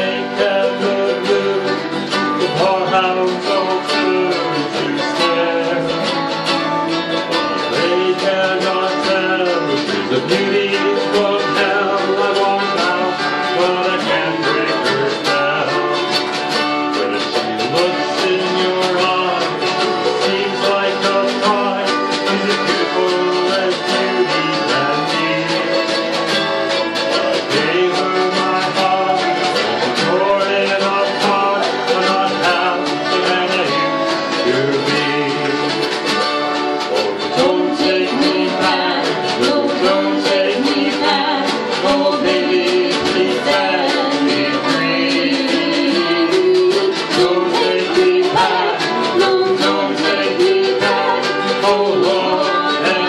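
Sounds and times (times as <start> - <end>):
acoustic guitar strumming: 0.0 - 53.0
autoharp: 0.0 - 53.0
electric guitar: 0.0 - 53.0.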